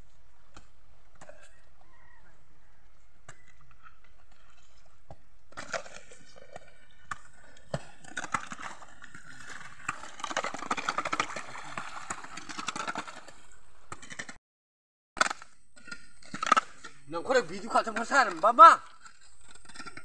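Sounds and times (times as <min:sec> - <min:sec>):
hoes scraping wet mud: 0:00.0 - 0:14.4, 0:15.2 - 0:20.0.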